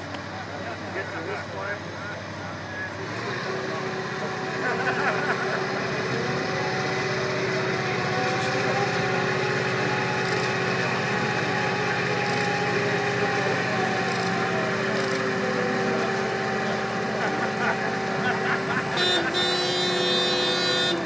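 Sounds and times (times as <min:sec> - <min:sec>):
crane engine drone: 0:00.0 - 0:21.0.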